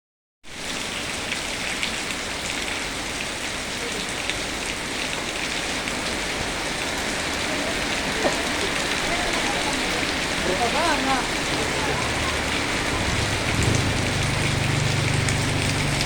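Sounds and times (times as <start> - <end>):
steady rain: 0.5 - 16.0
raindrops ticking on a surface: 0.6 - 16.0.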